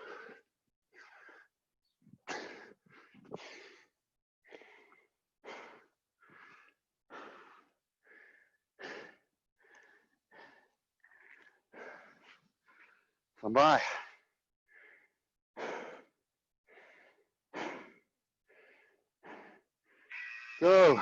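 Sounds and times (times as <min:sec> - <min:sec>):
people breathing hard and wheezing: 0:00.0 - 0:13.3, 0:14.1 - 0:21.0.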